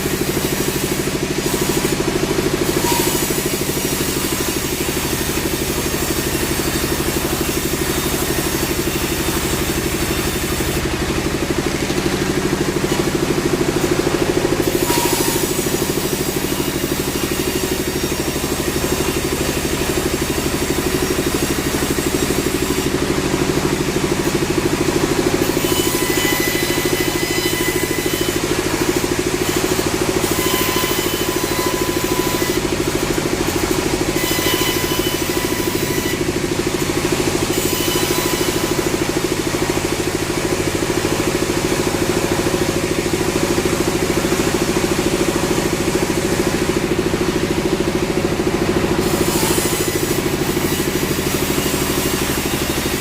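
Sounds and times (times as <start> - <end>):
machinery engine drone: 0.0 - 53.0.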